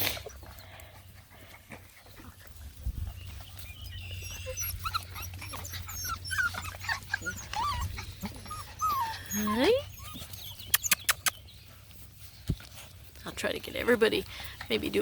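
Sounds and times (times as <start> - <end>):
puppies whining and yipping: 0.0 - 13.2.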